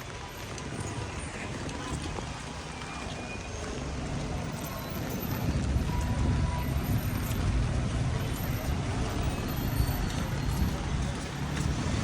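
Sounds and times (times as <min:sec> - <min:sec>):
traffic hiss on wet road: 0:00.0 - 0:12.0
vehicle engine rumble: 0:00.0 - 0:12.0.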